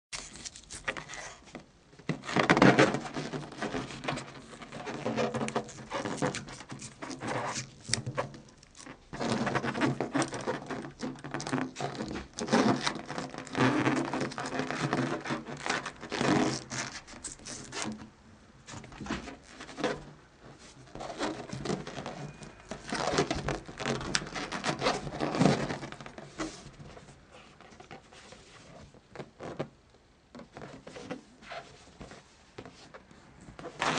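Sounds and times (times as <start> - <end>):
rubber balloon rubbing: 0.2 - 29.8, 30.4 - 33.9.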